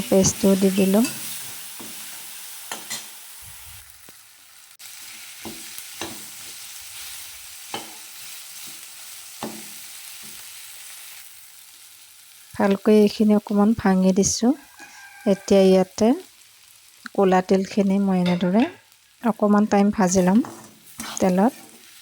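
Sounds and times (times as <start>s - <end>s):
oil sizzling in a pan: 0.0s - 22.0s.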